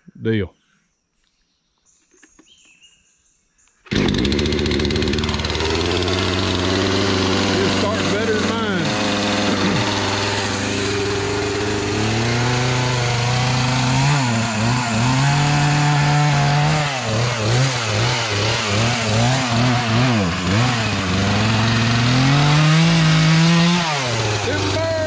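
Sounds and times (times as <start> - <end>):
chainsaw cutting wood: 3.9 - 25.0.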